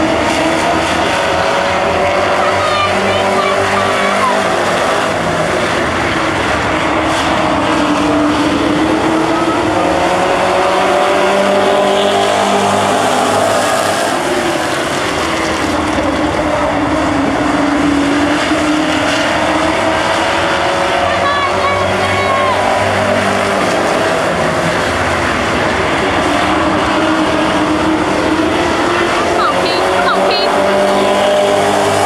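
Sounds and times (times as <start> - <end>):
race car engines passing: 0.0 - 32.0.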